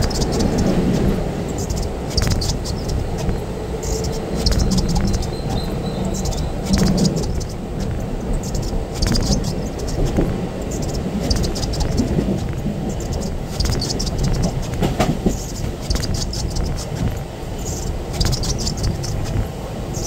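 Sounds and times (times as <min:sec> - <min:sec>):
train rumbling on rails: 0:00.0 - 0:20.0
wheels squeaking on track: 0:00.0 - 0:20.0.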